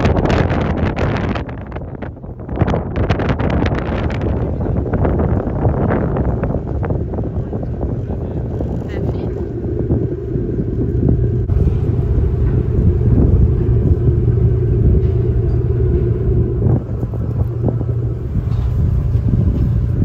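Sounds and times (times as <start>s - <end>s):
diesel engines rumbling: 0.0s - 20.0s.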